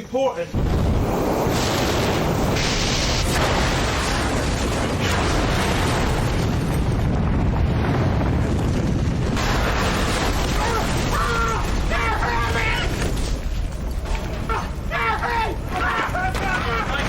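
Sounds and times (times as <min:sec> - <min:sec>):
deep explosion rumble: 0:00.5 - 0:17.0
fire hissing: 0:00.5 - 0:17.0.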